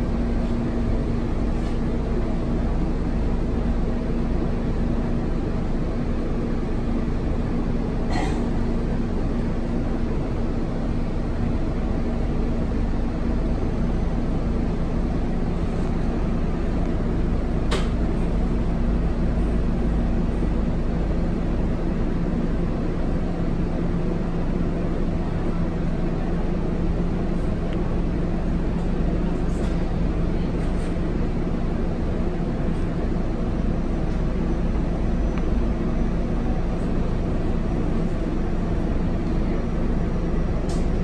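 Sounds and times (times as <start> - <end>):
bus diesel engine idling: 0.0 - 41.0.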